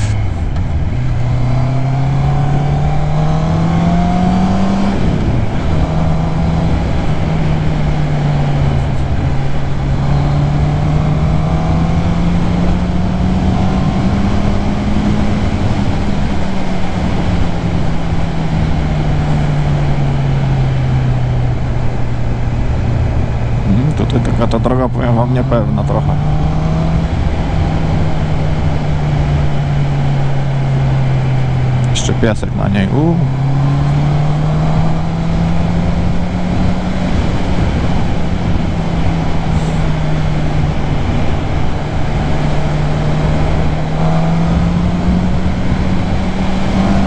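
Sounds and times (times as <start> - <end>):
motorcycle engine revving: 0.0 - 47.0
wind and road noise: 0.0 - 47.0.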